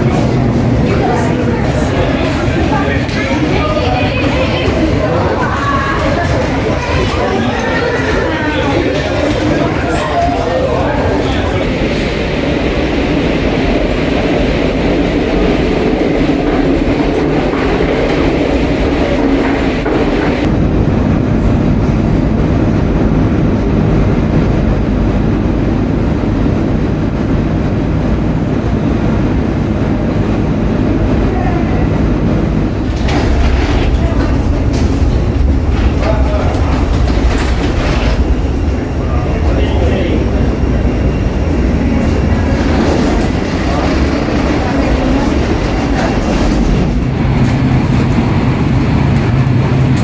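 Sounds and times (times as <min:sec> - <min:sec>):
train carriage rumble and rattle: 0:00.0 - 0:50.0.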